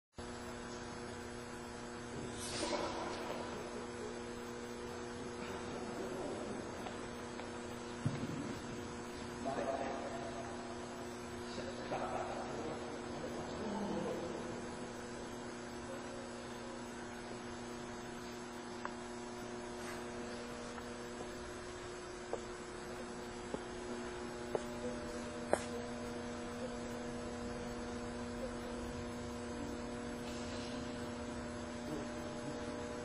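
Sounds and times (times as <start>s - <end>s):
electrical hum: 0.2s - 33.0s.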